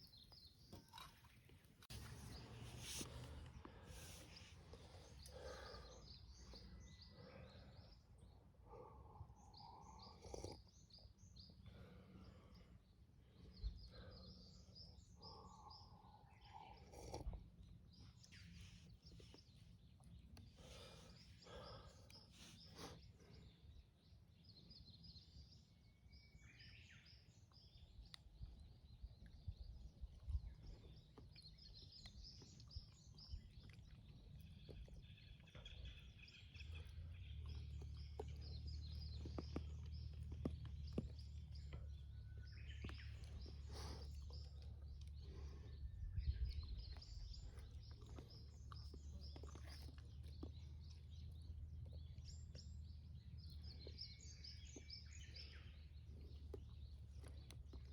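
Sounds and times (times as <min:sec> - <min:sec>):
distant small birds chirping: 0:00.0 - 0:57.9.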